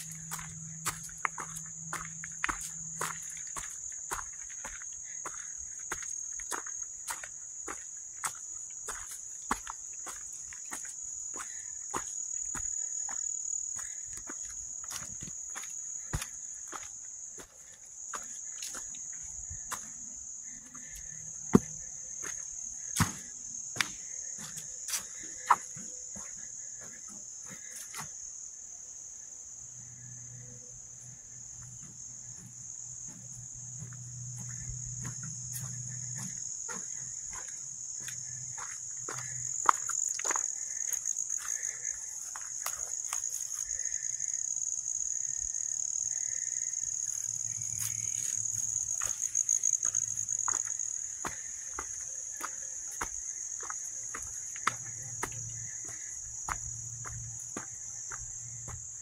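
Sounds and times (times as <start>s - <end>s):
footsteps on dirt trail: 0.0s - 28.4s, 30.9s - 44.0s, 47.0s - 59.0s
high-pitched insect chorus: 0.0s - 59.0s.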